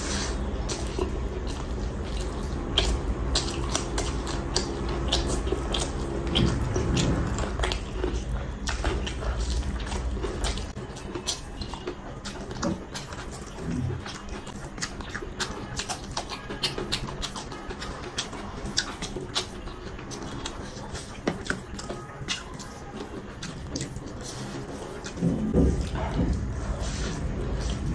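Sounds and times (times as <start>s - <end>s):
chewing with lip smacks: 0.0s - 27.9s.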